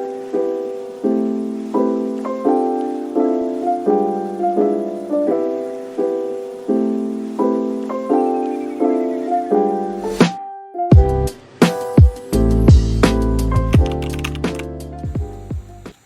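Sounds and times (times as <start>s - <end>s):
soft piano chords: 0.0s - 15.9s.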